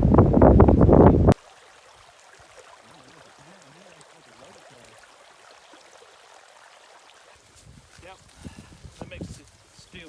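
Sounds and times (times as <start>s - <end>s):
stream rushing: 1.4s - 10.0s.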